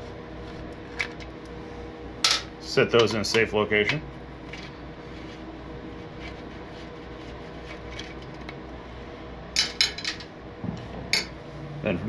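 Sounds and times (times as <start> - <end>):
low room tone hum: 0.0 - 12.0.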